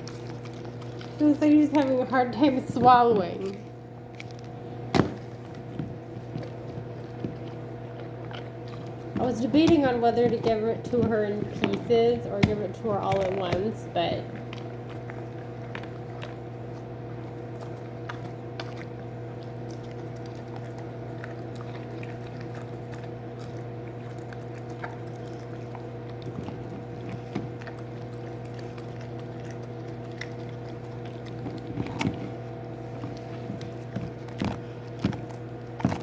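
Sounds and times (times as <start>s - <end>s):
dog chewing cookie: 0.0s - 36.0s
steady mechanical hum: 0.0s - 36.0s.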